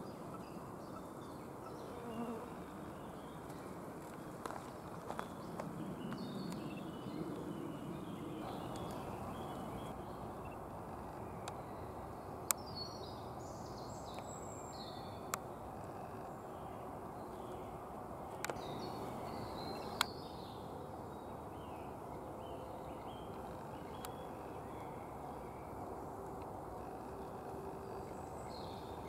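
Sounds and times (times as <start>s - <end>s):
faint bird song: 0.0s - 29.0s.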